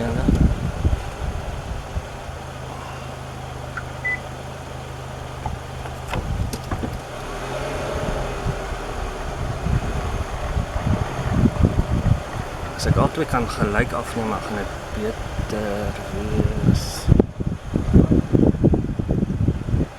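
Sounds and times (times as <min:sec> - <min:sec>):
low rumbles and knocks: 0:00.0 - 0:19.9
vehicle engine idling: 0:00.0 - 0:19.9.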